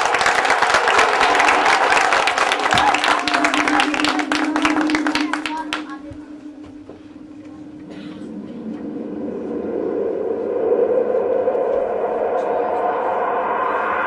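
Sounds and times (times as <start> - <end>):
sustained electronic tone: 0.0 - 14.0.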